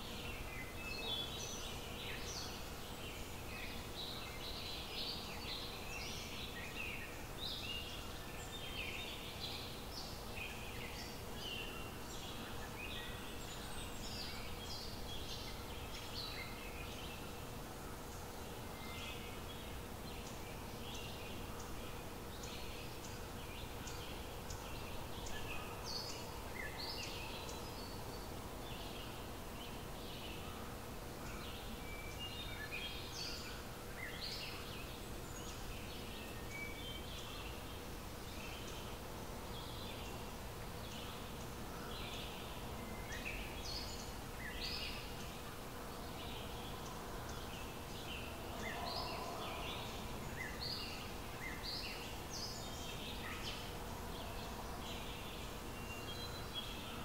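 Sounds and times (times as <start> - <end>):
faint steady hum: 0.0 - 57.0
low background noise: 0.0 - 57.0
small birds chirping: 0.0 - 57.0.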